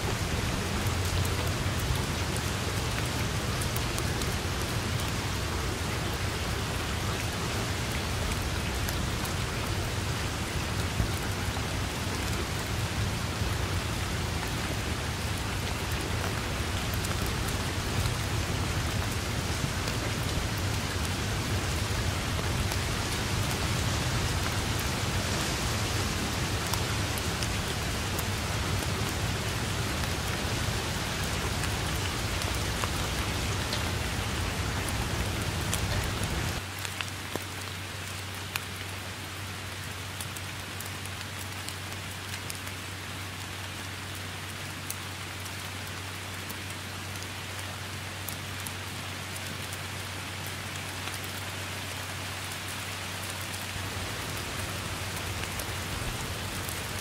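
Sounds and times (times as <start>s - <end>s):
heavy rain on foliage: 0.0s - 57.0s.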